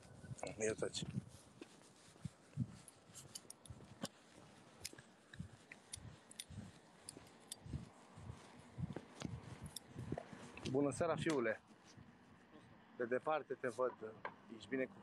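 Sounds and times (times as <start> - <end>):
footsteps on pavement: 0.0 - 12.9.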